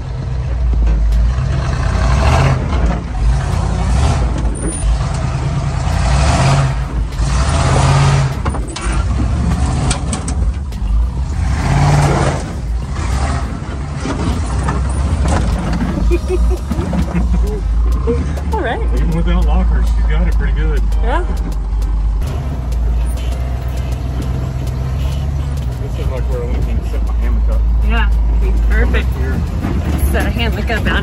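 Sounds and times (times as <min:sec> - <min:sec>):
car engine at low speed: 0:00.0 - 0:31.0
knocks and rattles over bumps: 0:00.0 - 0:31.0.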